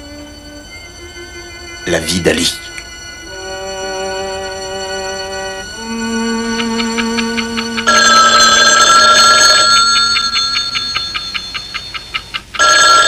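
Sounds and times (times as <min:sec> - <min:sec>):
held music notes: 0:00.0 - 0:12.9
telephone bell ringing: 0:00.0 - 0:13.0.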